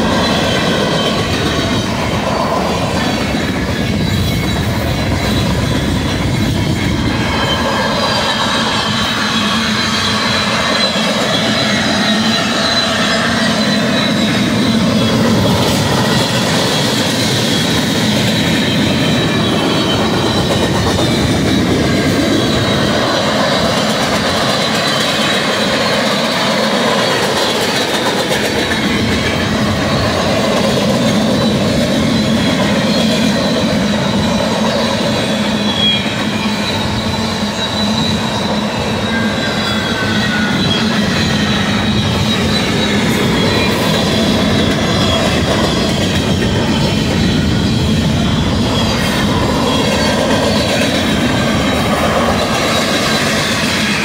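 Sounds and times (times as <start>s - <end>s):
high wheel squeal: 0.0s - 54.0s
train wheels rumbling on rail: 0.0s - 54.0s.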